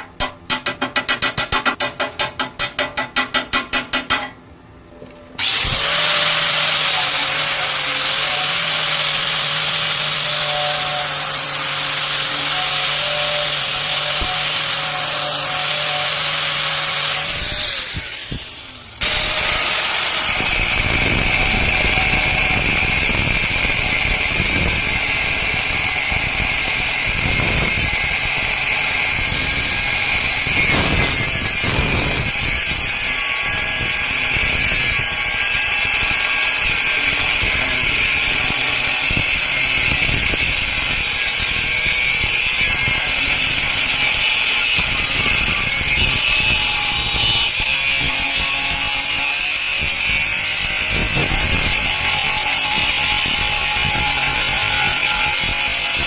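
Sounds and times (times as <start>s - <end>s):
power tool whining on metal: 5.4s - 56.0s.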